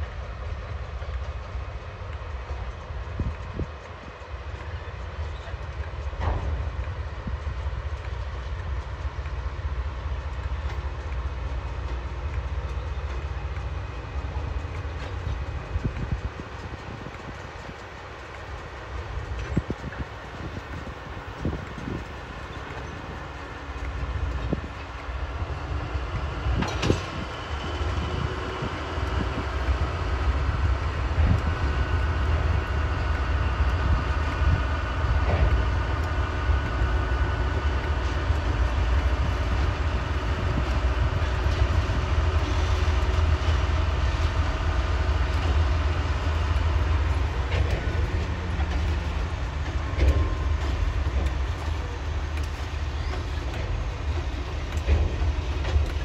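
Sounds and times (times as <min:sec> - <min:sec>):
locomotive engines rumbling: 0:00.0 - 0:56.0.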